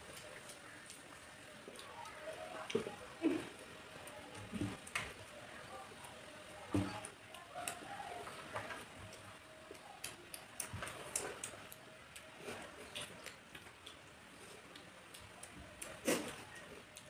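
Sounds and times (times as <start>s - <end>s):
chewing and lip smacks: 0.0s - 17.0s.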